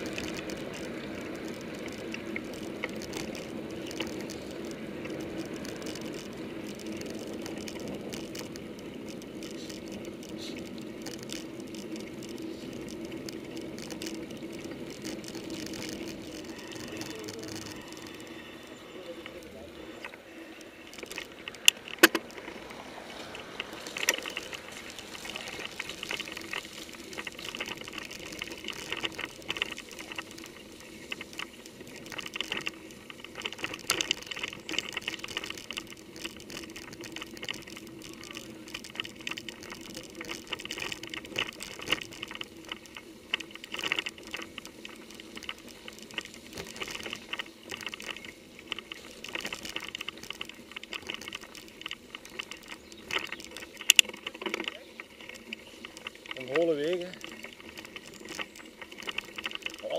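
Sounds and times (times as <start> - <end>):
mountain bike rattling on dirt trail: 0.0 - 59.9.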